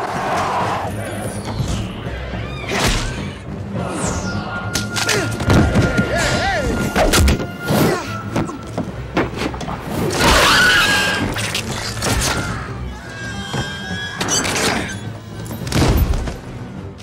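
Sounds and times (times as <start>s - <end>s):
action film music: 0.0s - 17.0s.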